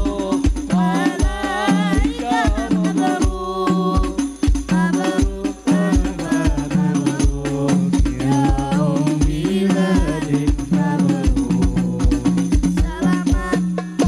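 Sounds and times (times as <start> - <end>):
man singing into a microphone: 0.0 - 4.0, 4.8 - 13.5
jingling tambourine strokes: 0.0 - 14.0
low drum beat: 0.0 - 14.0.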